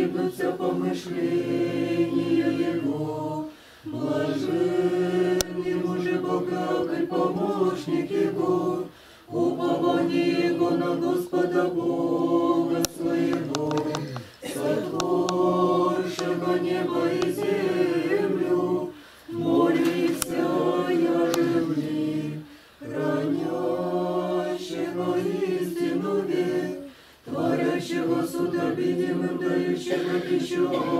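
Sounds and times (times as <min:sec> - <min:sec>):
group singing a cappella: 0:00.0 - 0:30.9.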